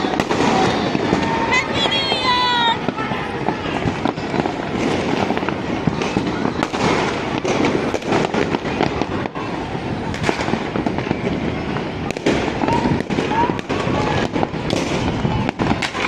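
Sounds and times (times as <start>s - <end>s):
fireworks and firecrackers bangs: 0.0s - 16.0s.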